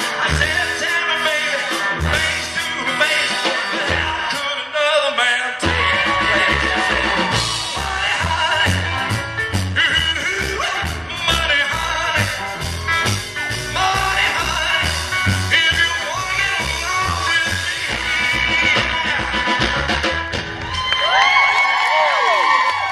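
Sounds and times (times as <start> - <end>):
rock and roll band playing: 0.0 - 21.3.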